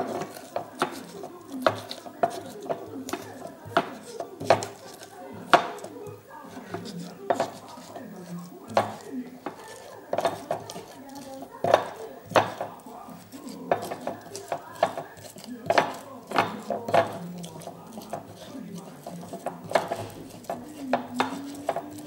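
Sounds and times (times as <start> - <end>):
pestle pounding in mortar: 0.0 - 22.0
pestle scraping in mortar: 0.0 - 22.0.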